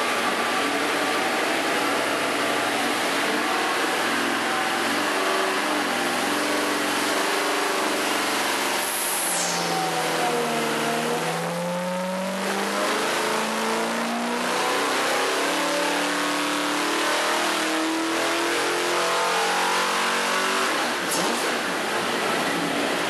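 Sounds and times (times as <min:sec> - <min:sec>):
engine running on a dyno: 0:00.0 - 0:23.0.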